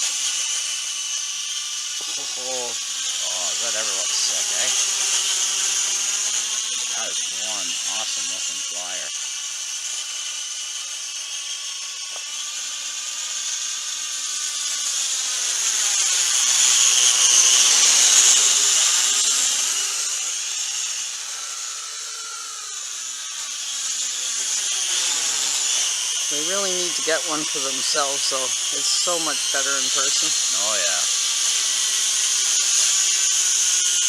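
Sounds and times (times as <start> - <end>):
quadcopter propellers whining: 0.0 - 34.0.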